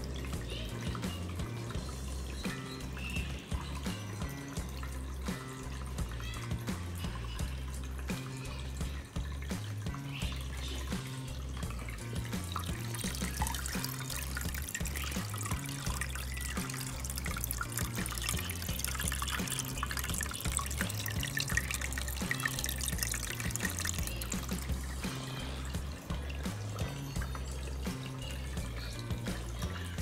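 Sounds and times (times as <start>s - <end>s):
filter water pouring into tank: 0.0s - 30.0s.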